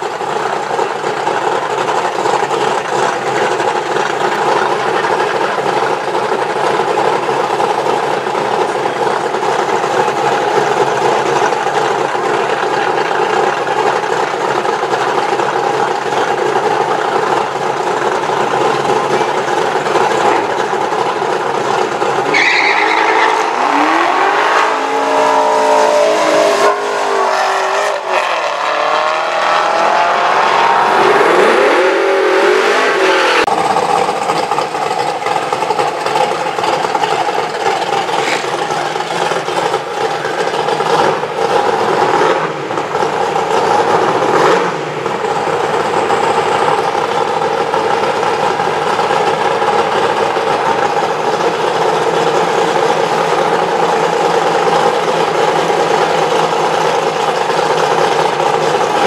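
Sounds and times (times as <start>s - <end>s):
car engine accelerating: 0.0s - 59.0s
drag car engines idling: 0.0s - 59.0s.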